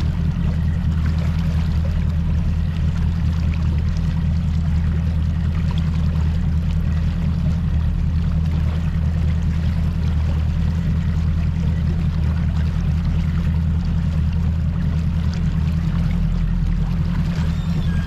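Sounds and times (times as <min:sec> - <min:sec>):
outboard motor droning: 0:00.0 - 0:18.0
water rushing along hull: 0:00.0 - 0:18.0.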